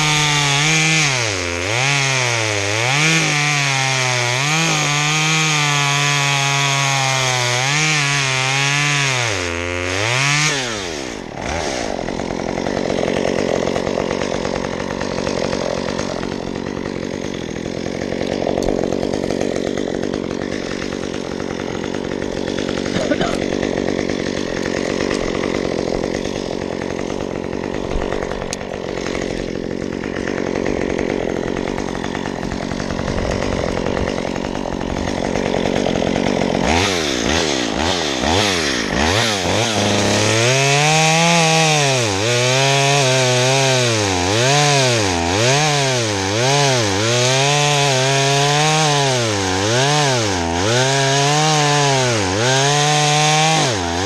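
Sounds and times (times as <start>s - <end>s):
chainsaw running: 0.0s - 54.0s.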